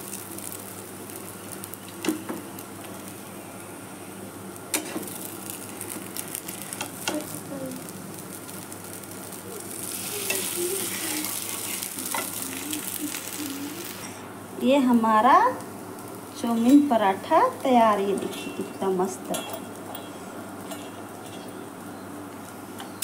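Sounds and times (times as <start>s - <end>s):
food sizzling in oil: 0.0s - 23.0s.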